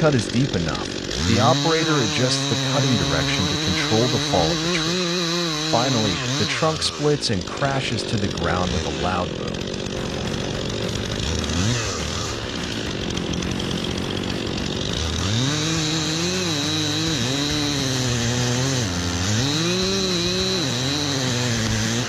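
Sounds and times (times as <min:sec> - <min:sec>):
chainsaw running and cutting: 0:00.0 - 0:22.0.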